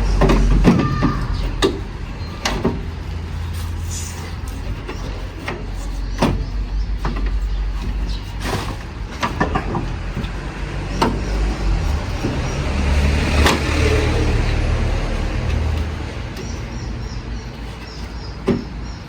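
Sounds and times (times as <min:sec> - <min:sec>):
car engine running: 0:00.0 - 0:19.0
sharp clicks and knocks: 0:00.0 - 0:19.0.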